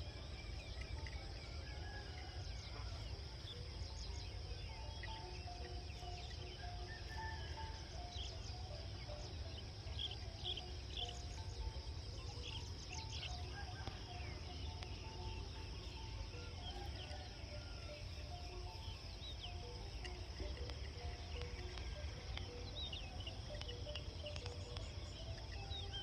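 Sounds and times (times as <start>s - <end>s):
bird chirps: 0.0s - 26.0s
high-pitched insect chorus: 0.0s - 26.0s.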